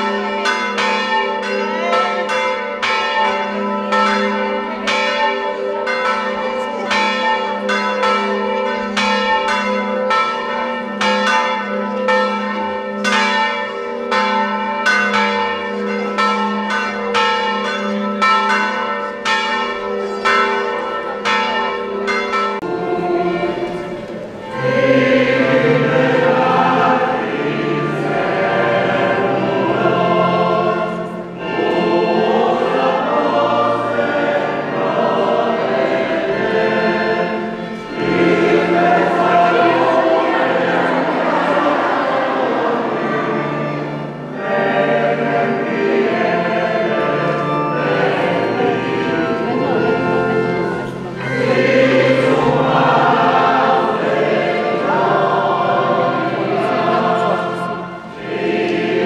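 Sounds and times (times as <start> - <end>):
choir singing: 0.0 - 11.0, 22.5 - 59.0
church bells ringing: 0.0 - 59.0.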